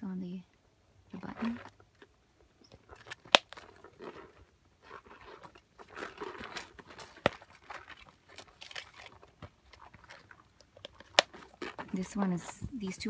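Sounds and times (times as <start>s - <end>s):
leather rustling and crinkling: 1.2s - 13.0s.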